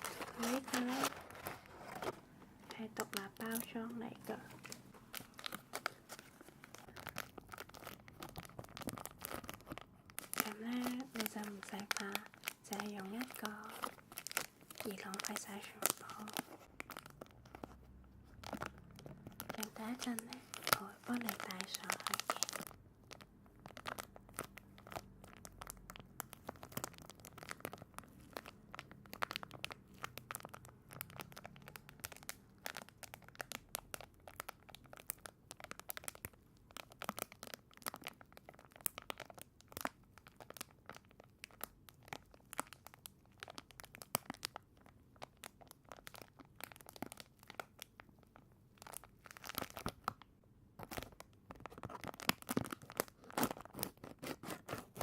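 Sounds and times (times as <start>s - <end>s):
plastic wrapper crinkling and tearing: 0.0s - 55.0s.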